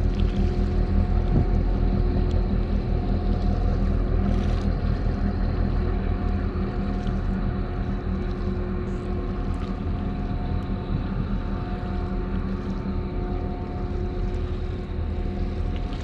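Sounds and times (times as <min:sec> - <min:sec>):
steady pitched hum: 0:00.0 - 0:16.0.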